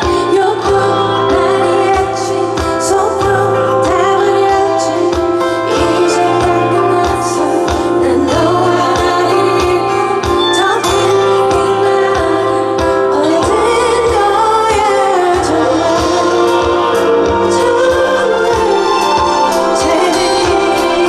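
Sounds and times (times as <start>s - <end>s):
live band playing: 0.0s - 21.0s
steady drum beat: 0.0s - 21.0s
woman singing: 0.0s - 21.0s.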